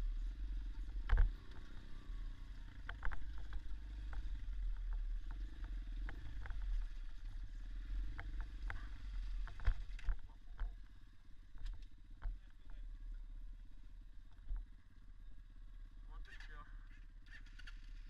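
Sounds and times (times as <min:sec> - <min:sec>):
dirt bike engine idling: 0:00.0 - 0:18.0.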